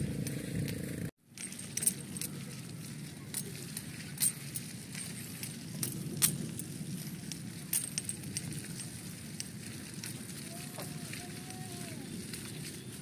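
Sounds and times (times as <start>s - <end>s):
bicycle low rumble: 0.0s - 13.0s
bike metallic clinks and rattles: 0.0s - 13.0s.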